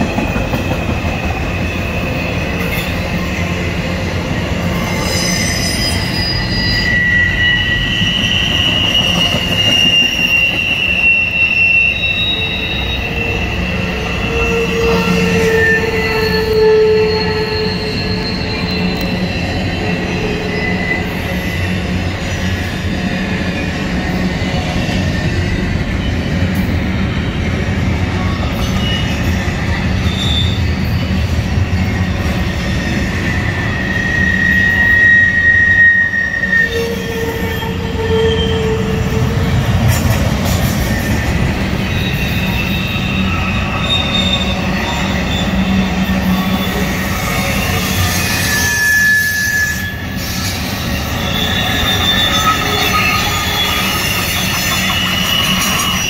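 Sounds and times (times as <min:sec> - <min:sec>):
high wheel squeals: 0:00.0 - 0:27.5, 0:28.2 - 0:56.0
train wheels rumbling on rail: 0:00.0 - 0:56.0.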